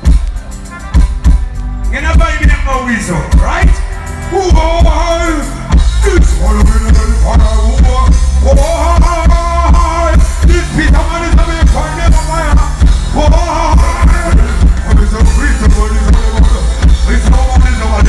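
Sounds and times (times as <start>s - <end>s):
music with heavy bass beat: 0.0s - 18.0s
person singing: 0.4s - 18.0s.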